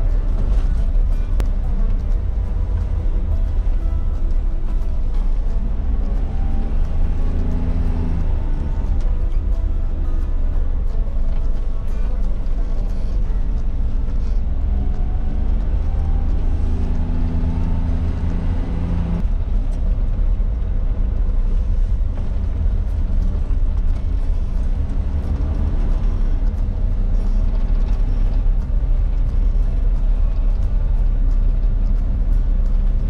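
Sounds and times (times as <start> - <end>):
car engine running: 0.0 - 33.0
low road rumble: 0.0 - 33.0.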